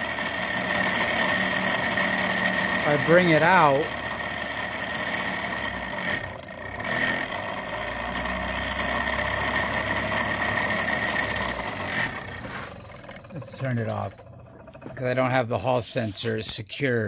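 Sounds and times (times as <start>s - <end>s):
motor running with high whine: 0.0s - 16.4s.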